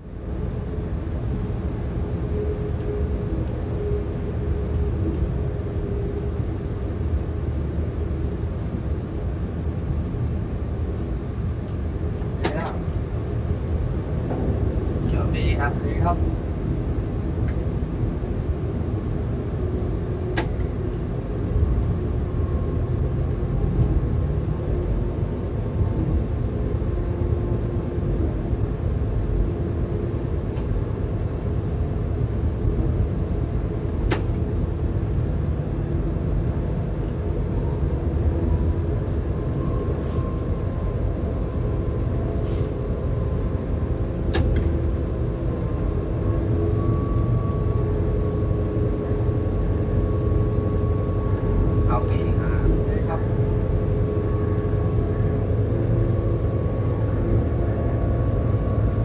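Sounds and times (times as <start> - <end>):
faint steady whine: 0.0 - 59.0
train engine and wheels rumbling: 0.0 - 59.0.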